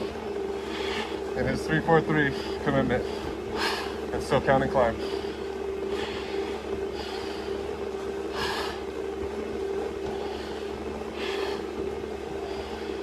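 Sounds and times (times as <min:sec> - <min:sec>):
man breathing hard: 0:00.0 - 0:01.4, 0:02.2 - 0:04.1, 0:04.9 - 0:13.0
steady low hum: 0:00.0 - 0:13.0.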